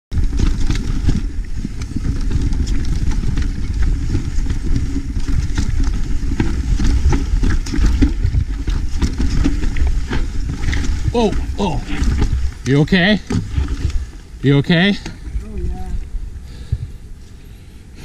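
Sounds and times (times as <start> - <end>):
bike rattles and knocks: 0.1 - 15.9
mountain bike rumbling on dirt: 0.1 - 18.0.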